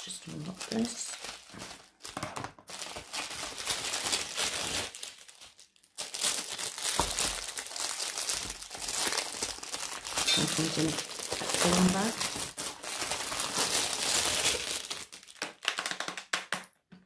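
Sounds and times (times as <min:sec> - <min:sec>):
bubble wrap crinkling: 0:00.0 - 0:16.7.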